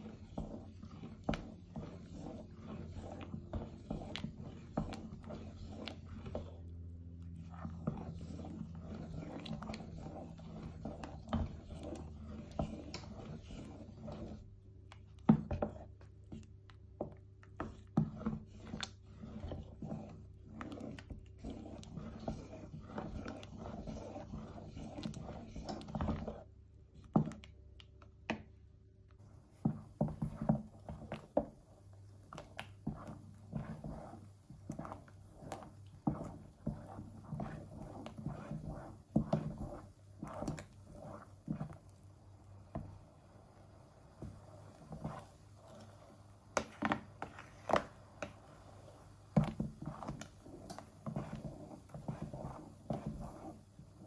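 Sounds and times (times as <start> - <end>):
wooden spoon scraping a pot: 0.0 - 27.5, 29.2 - 54.0.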